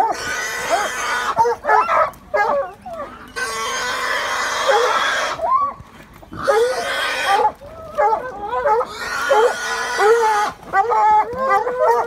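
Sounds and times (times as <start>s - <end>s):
wild boar squealing: 0.0s - 2.0s, 2.6s - 12.0s
hounds yelping: 0.0s - 12.0s.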